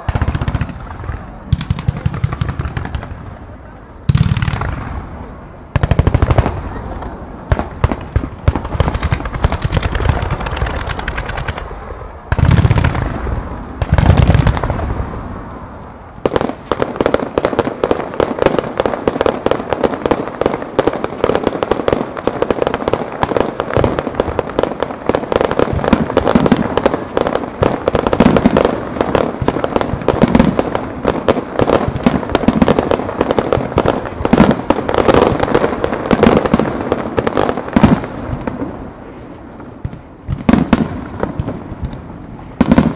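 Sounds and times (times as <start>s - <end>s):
firework booms: 0.0s - 42.9s
fireworks crackling and popping: 0.0s - 42.9s.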